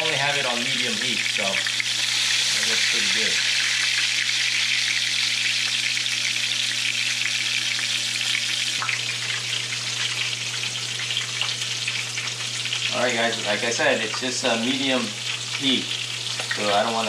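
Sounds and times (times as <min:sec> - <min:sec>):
clams sizzling in hot oil: 0:00.2 - 0:17.0.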